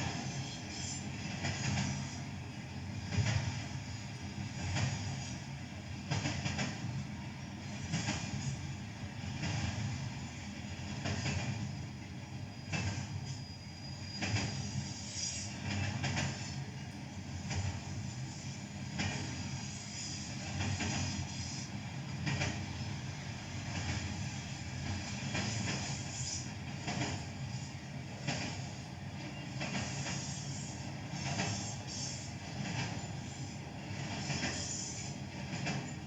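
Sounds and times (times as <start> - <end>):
freight train rumbling: 0.0 - 36.0.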